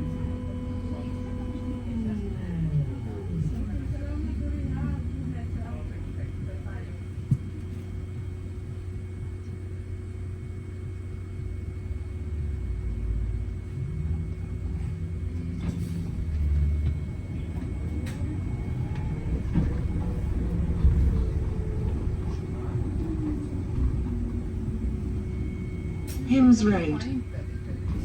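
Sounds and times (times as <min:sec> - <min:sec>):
bus interior rumble: 0:00.0 - 0:28.0
faint constant whine: 0:00.0 - 0:28.0.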